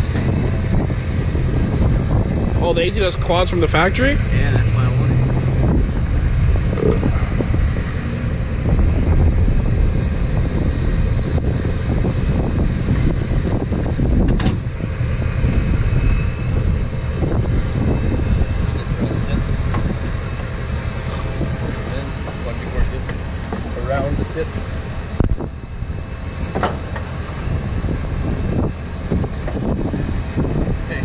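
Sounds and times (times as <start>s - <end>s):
road and wind noise: 0.0s - 31.0s
vehicle engine low rumble: 0.0s - 31.0s.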